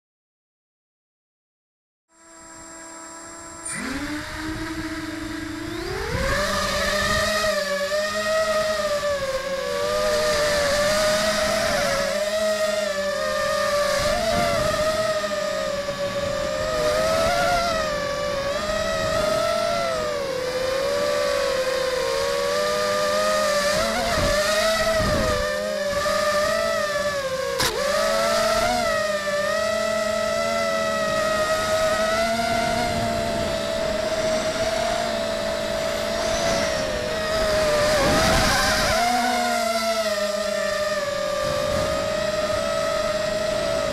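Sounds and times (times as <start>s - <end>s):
drone motors whining: 2.1s - 43.9s.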